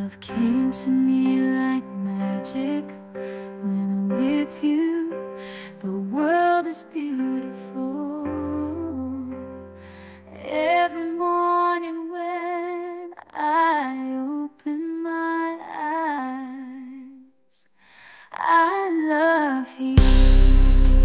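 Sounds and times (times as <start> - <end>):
woman singing pop ballad: 0.0 - 17.2, 18.1 - 20.6.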